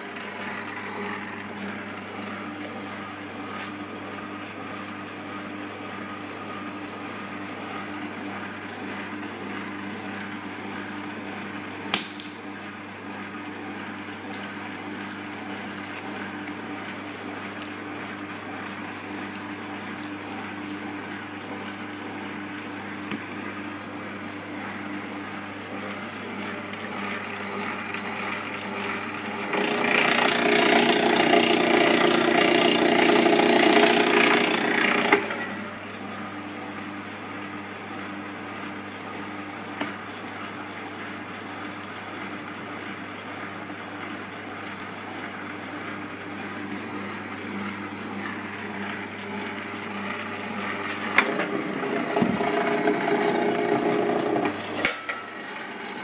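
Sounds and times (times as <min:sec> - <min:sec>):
cable stripping machine motor humming: 0:00.0 - 0:37.0, 0:45.8 - 0:56.0.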